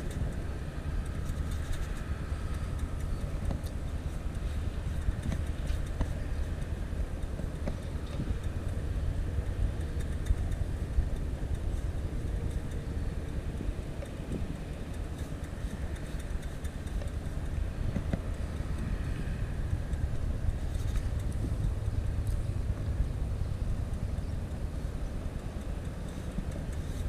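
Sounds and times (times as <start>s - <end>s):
distant road traffic rumble: 0.0s - 27.0s.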